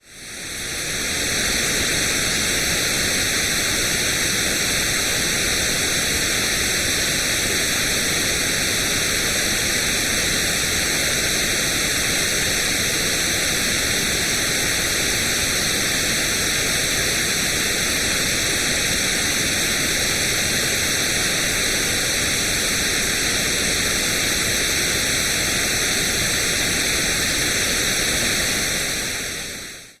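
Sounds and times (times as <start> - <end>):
steady white noise hiss: 0.0 - 30.0.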